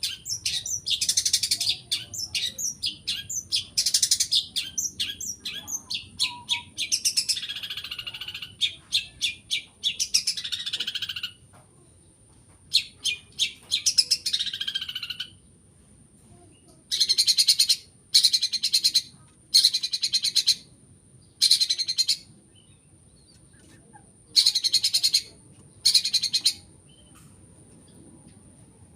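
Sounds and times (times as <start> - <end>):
bird chirping song: 0.0 - 15.6, 16.4 - 28.6.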